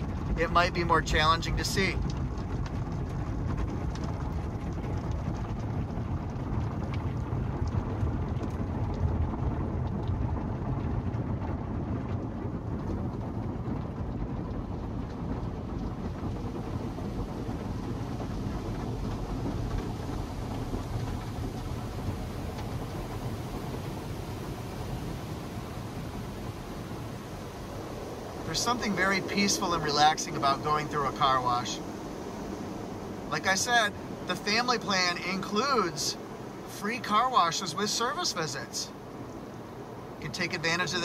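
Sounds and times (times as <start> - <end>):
steady low rumble: 0.0 - 41.0
water spray drumming on car: 0.0 - 41.0.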